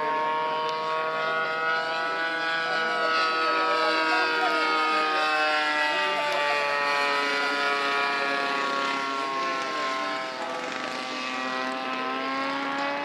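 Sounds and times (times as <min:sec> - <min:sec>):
model plane engine overhead: 0:00.0 - 0:13.0.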